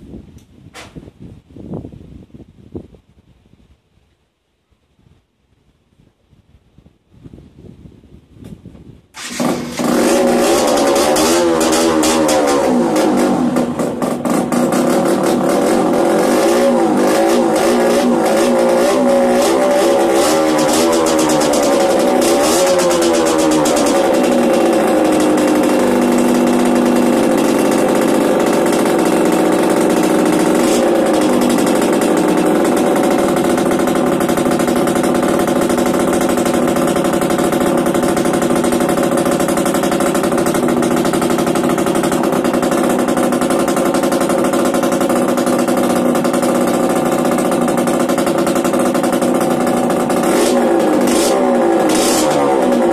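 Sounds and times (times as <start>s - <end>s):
two-stroke engine revving: 9.2s - 52.9s.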